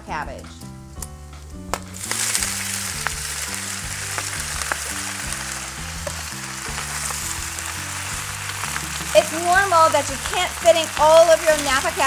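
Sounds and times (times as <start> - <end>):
cabbage sizzling in hot fat: 0.6 - 12.0.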